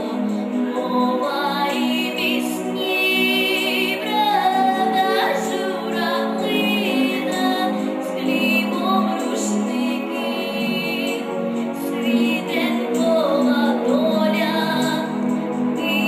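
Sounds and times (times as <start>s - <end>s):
girl singing with vibrato: 0.0s - 11.2s, 11.8s - 16.0s
instrumental accompaniment: 0.0s - 16.0s.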